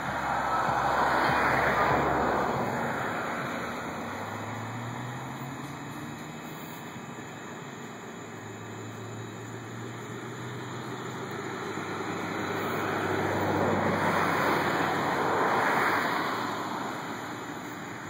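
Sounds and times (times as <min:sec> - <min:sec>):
car passing by: 0:00.0 - 0:18.0.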